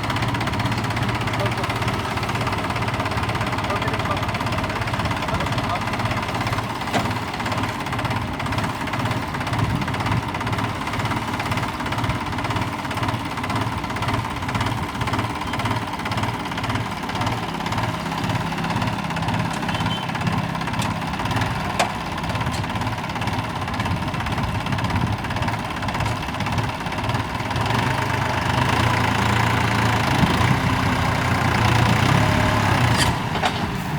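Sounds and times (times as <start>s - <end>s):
tractor engine chugging: 0.0s - 33.9s.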